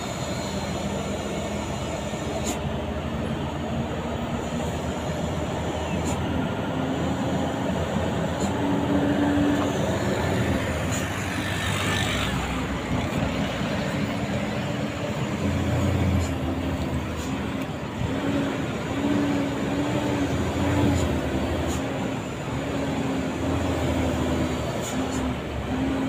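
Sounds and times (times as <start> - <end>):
diesel truck engine running: 0.0 - 26.0
road and tyre noise: 0.0 - 26.0.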